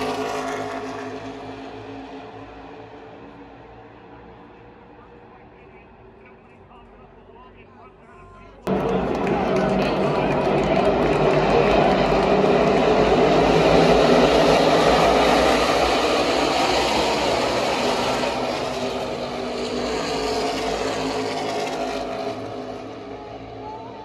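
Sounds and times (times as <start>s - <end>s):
race cars engines droning: 0.0s - 24.0s.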